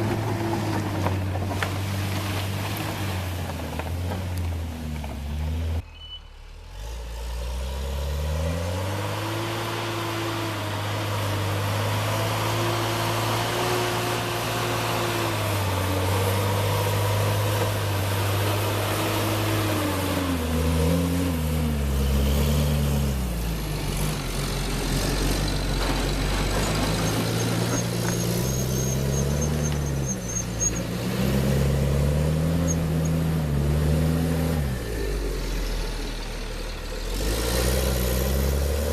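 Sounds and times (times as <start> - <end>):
heavy vehicle engine revving: 6.5 - 38.9.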